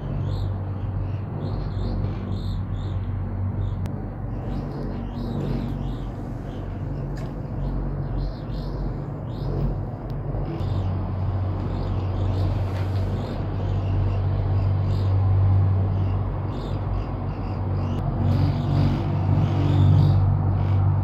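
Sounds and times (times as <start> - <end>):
cable car rumble and hum: 0.0 - 21.0.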